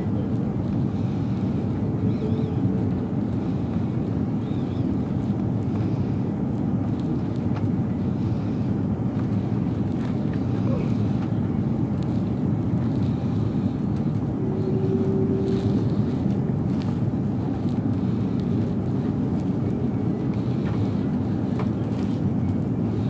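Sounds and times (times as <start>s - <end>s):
airliner cabin engine rumble: 0.0s - 23.0s
steady whine: 0.0s - 23.0s.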